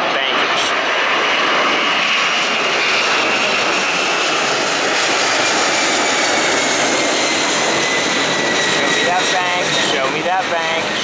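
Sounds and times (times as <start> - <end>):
jet engines with high whine: 0.0 - 11.0.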